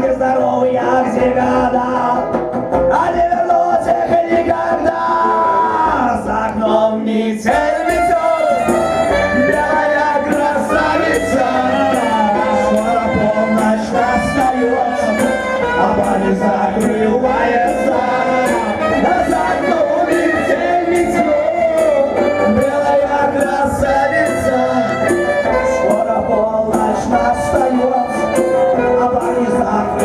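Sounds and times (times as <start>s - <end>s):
live pop music accompaniment: 0.0s - 30.0s
person singing: 0.0s - 30.0s.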